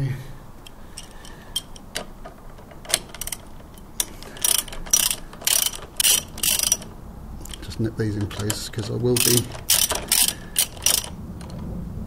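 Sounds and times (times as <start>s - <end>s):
socket ratchet clicking: 0.6s - 11.6s.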